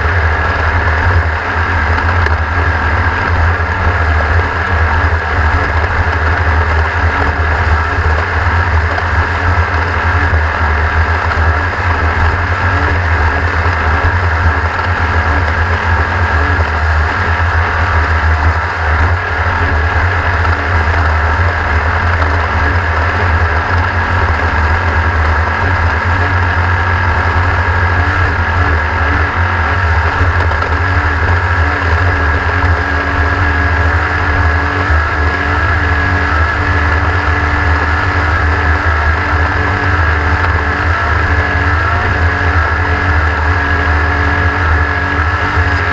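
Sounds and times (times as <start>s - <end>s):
racing engine running at speed: 0.0s - 45.9s.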